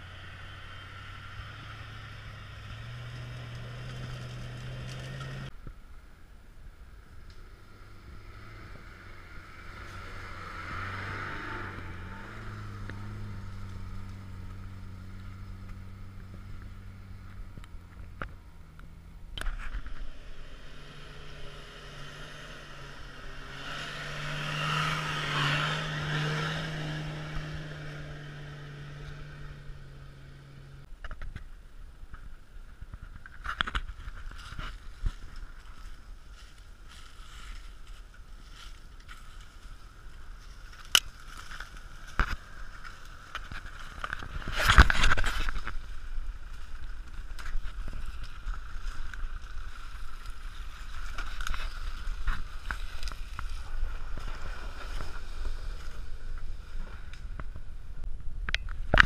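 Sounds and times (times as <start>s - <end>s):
off-road vehicle engines: 0.0s - 59.0s.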